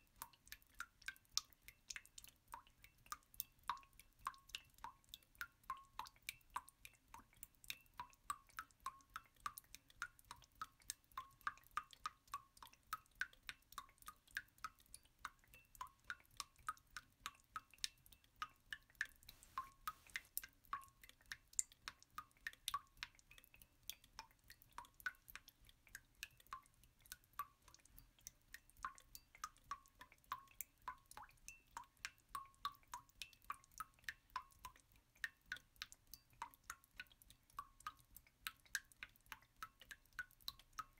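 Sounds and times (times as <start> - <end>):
faint water dripping: 0.0 - 40.9.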